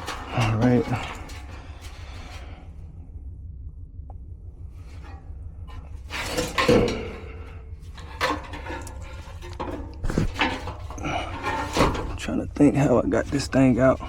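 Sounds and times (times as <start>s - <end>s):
metal clunks and scrapes: 0.0s - 2.6s, 4.8s - 14.0s
steady low rumble: 0.0s - 14.0s.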